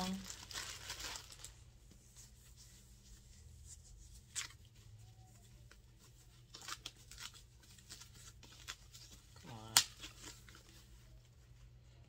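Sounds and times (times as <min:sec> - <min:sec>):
rustling of paper and plastic: 0:00.0 - 0:11.8.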